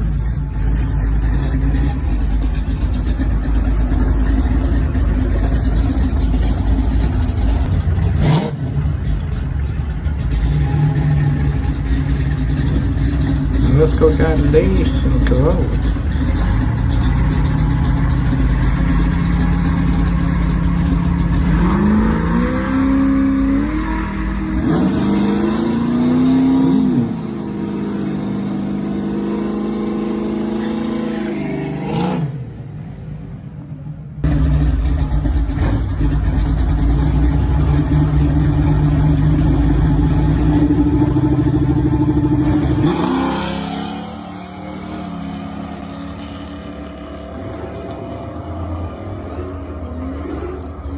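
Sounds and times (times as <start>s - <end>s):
muscle car engines revving: 0.0s - 33.4s, 34.0s - 50.9s.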